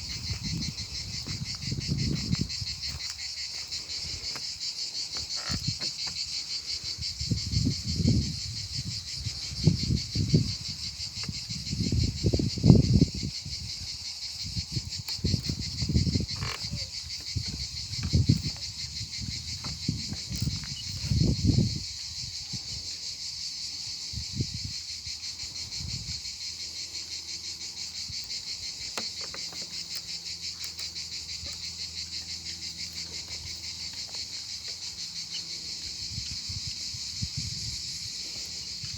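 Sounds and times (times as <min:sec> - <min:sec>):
insect chorus pulsing trill: 0:00.0 - 0:38.9.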